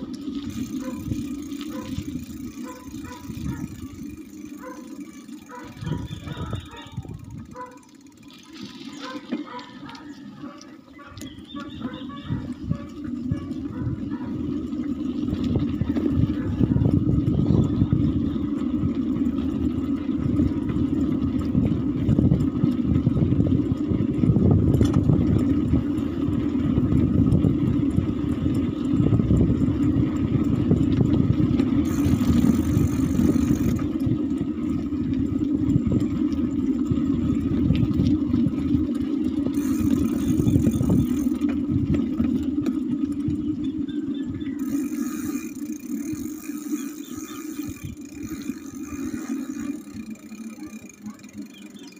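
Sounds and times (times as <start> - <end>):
wind buffeting microphone: 0.0 - 4.3, 5.5 - 7.7, 11.0 - 50.0
bicycle road rumble: 0.0 - 51.9.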